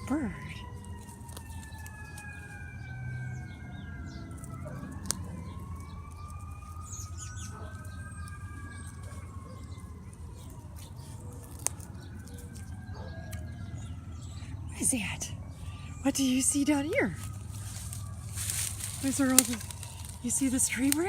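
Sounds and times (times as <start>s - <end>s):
distant sirens wailing: 0.0s - 21.0s.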